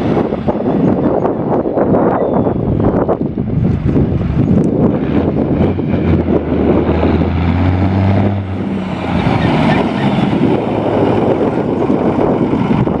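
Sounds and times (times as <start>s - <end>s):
tractor engine running loud: 0.0s - 13.0s.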